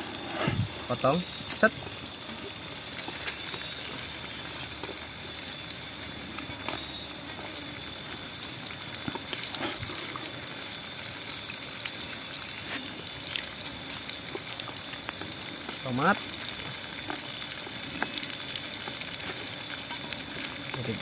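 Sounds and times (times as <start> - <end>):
garlic sizzling in oil: 0.0 - 21.0.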